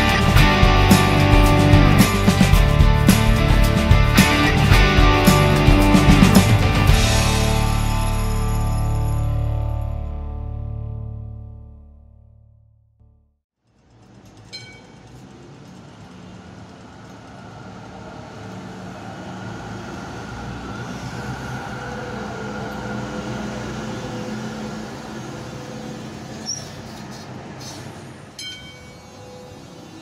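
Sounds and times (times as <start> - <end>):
tram motors humming: 0.0 - 9.1, 13.7 - 30.0.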